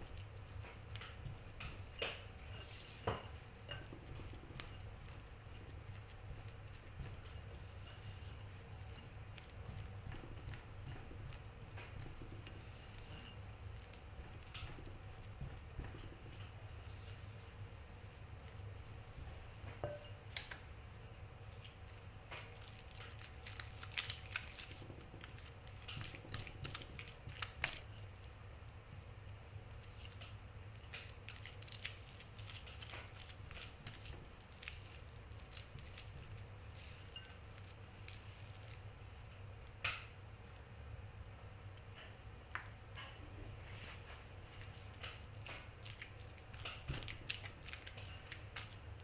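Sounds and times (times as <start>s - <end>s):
spatula squishing butter: 0.0s - 39.8s, 43.8s - 49.0s.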